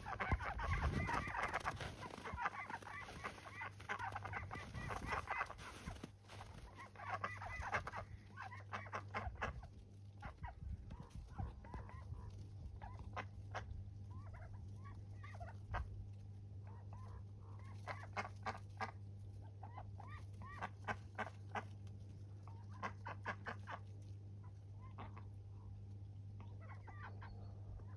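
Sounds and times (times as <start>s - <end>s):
ducks quacking and murmuring: 0.0s - 27.9s.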